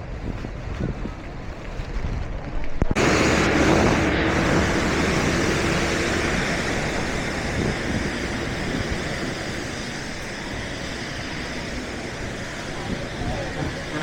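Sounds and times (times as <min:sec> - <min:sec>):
floodwater rushing: 0:00.0 - 0:14.0
vehicle noise: 0:00.0 - 0:14.0.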